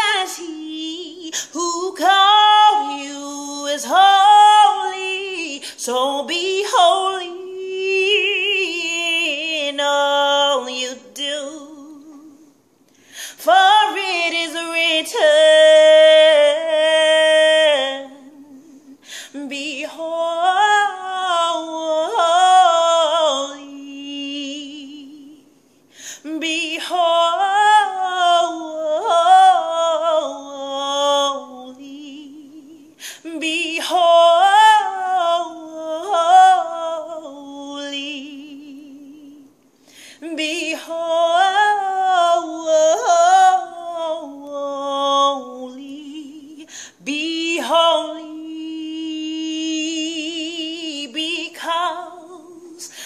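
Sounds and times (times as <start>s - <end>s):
woman singing unaccompanied: 0.0s - 12.6s, 13.3s - 39.6s, 40.2s - 53.0s.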